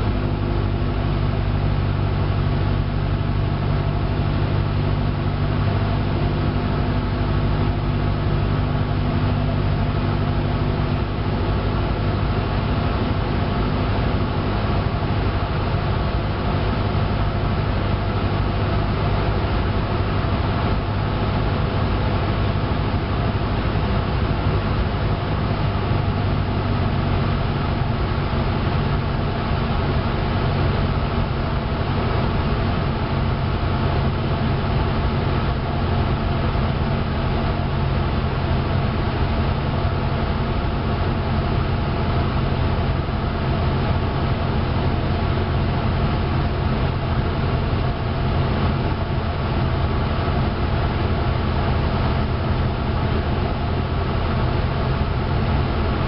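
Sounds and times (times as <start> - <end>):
airplane engine and propeller: 0.0 - 56.0.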